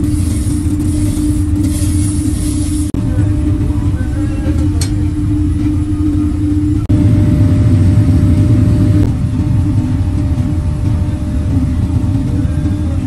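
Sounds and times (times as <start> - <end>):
constant hum: 0.0 - 13.0
low mechanical rumble: 0.0 - 13.0.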